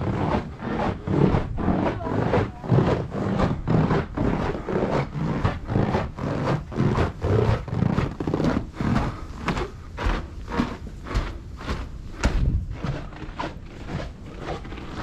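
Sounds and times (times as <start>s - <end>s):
footsteps on snow: 0.1s - 15.0s.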